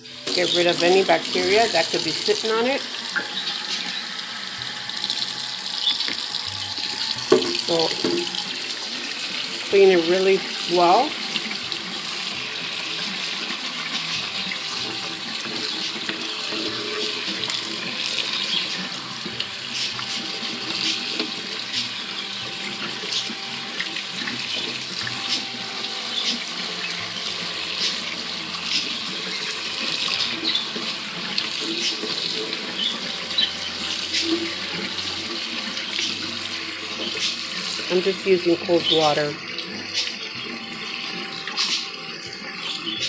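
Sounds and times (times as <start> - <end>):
tap water running: 0.0 - 43.0.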